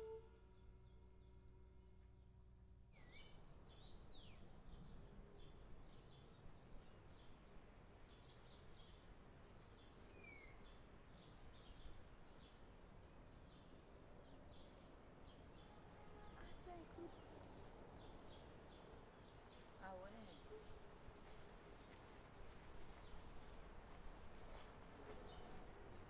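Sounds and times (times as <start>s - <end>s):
small birds chirping: 3.0s - 26.0s.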